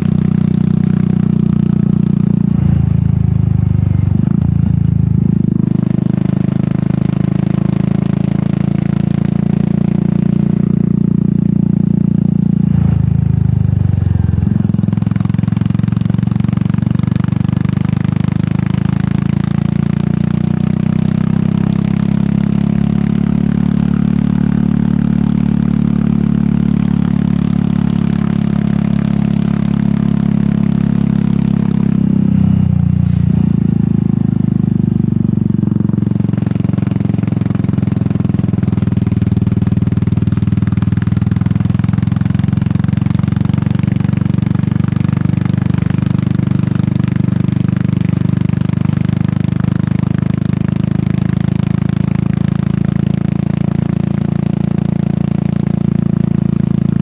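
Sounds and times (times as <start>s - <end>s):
motorcycle engine exhaust note: 0.0s - 57.0s.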